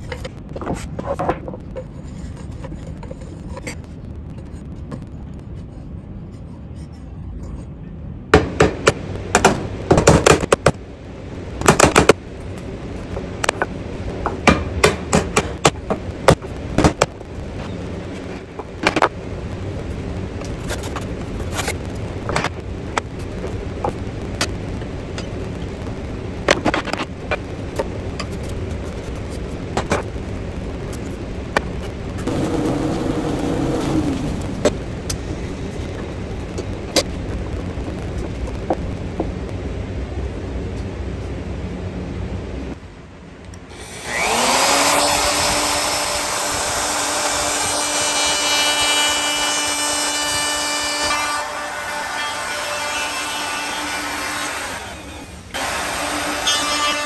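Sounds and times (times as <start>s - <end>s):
steady low hum: 0.0s - 56.4s.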